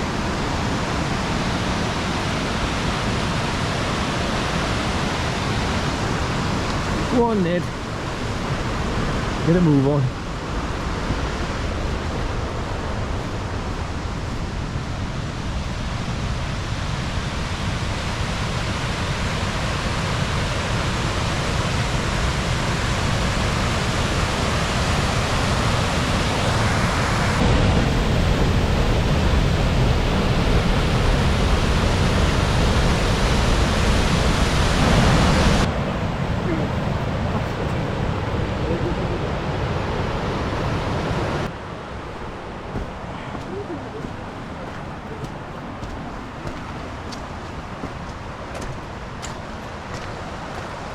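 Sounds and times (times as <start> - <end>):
river rushing over rocks: 0.0 - 27.8, 30.2 - 50.9.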